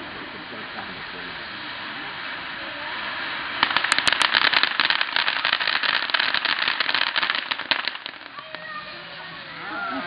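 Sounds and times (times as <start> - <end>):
firework crackling: 0.0 - 10.0.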